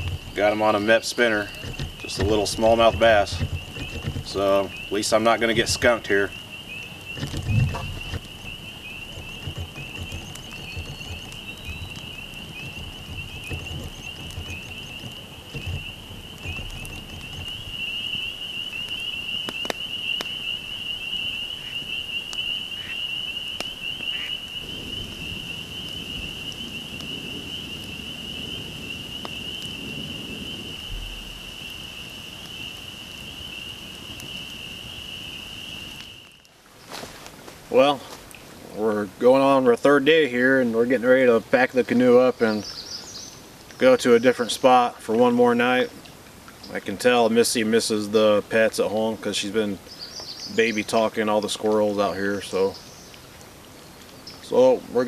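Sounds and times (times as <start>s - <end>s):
frogs peeping: 0.0s - 37.0s, 37.7s - 55.0s
campfire crackling and popping: 0.0s - 55.0s.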